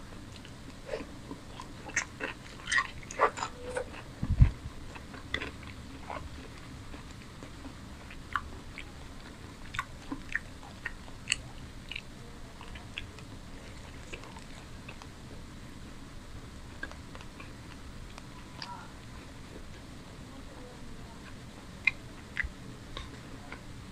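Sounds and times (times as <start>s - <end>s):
steady low hum: 0.0s - 23.9s
close chewing: 0.1s - 15.4s, 16.7s - 19.9s, 21.2s - 23.9s.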